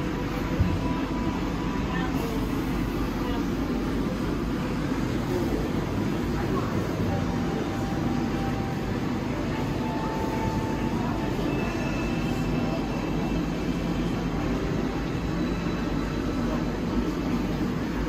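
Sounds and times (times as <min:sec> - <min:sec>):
hum of pumps and ventilation: 0:00.0 - 0:18.0.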